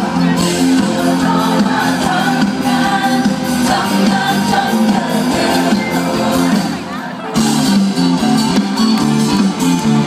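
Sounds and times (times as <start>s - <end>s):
drums: 0.0s - 10.0s
electric guitars: 0.0s - 10.0s
live rock band playing: 0.0s - 10.0s.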